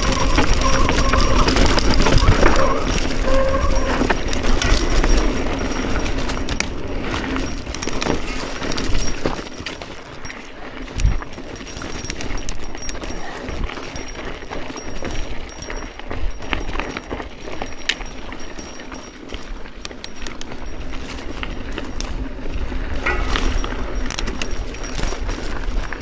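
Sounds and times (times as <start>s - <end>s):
bike rattling and clicking: 0.0s - 26.0s
tyres crunching over gravel: 0.0s - 26.0s.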